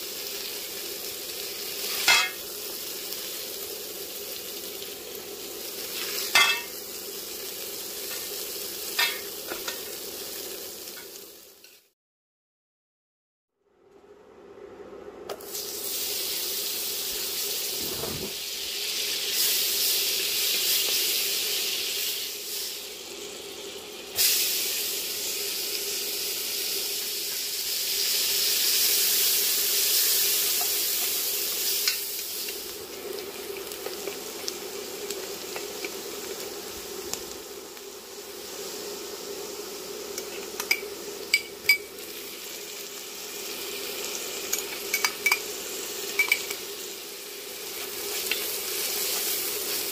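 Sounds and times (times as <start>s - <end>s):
butter sizzling in a pot: 0.0s - 11.9s, 15.3s - 49.9s
onion sizzling in butter: 0.0s - 11.9s, 15.4s - 49.9s.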